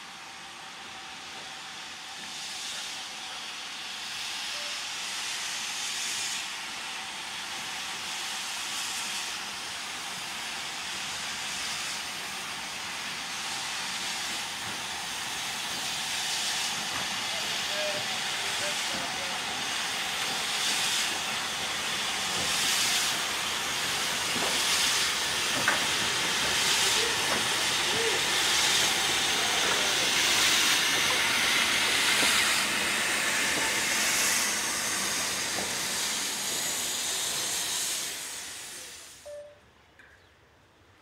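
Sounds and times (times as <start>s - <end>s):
steam locomotive hissing: 0.0s - 39.5s.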